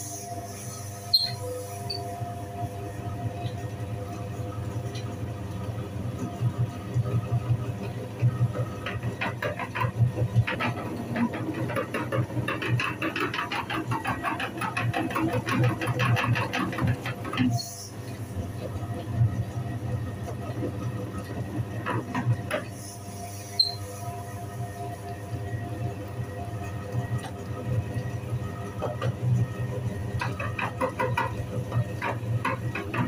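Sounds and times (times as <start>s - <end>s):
meat grinder motor hum: 5.4s - 33.0s.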